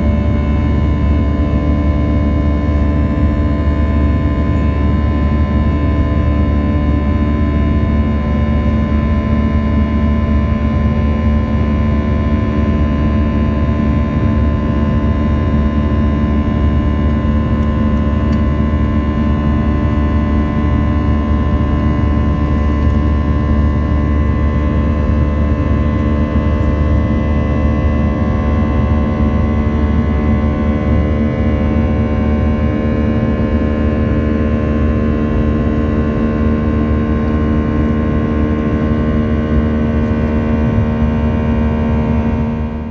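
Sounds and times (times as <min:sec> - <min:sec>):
jet engines heard from cabin: 0:00.0 - 0:42.9
steady whining engine tones: 0:00.0 - 0:42.9.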